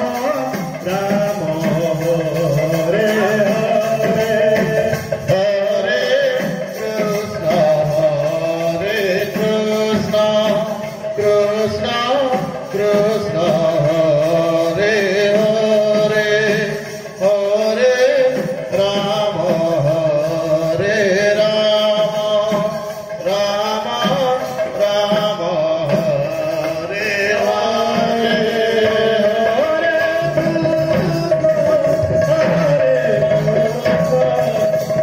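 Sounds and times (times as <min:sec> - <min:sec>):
devotional chanting with music: 0:00.0 - 0:35.0.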